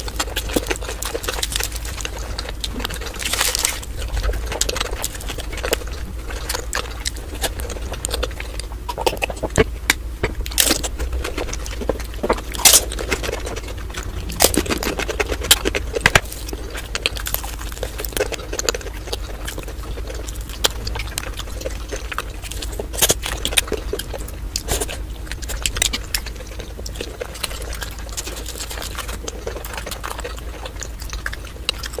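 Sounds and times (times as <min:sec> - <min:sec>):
low steady hum: 0:00.0 - 0:32.0
person chewing food: 0:00.0 - 0:32.0.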